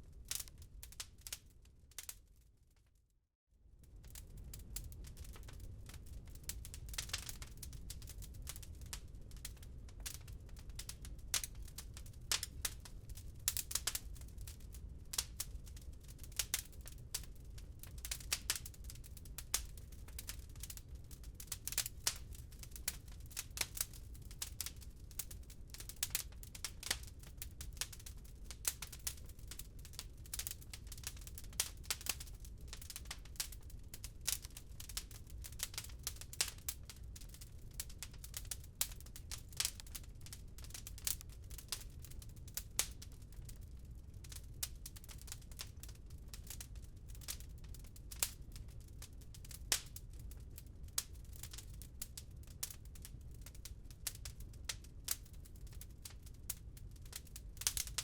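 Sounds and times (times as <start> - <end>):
wood fire crackling: 0.0 - 2.7, 3.8 - 58.0.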